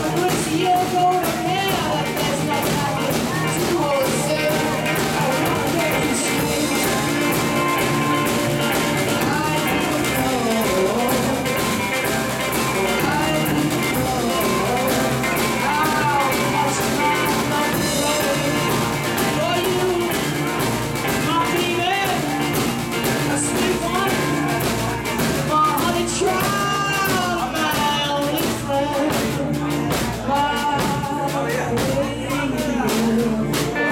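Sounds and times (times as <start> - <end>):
electric guitars: 0.0 - 33.9.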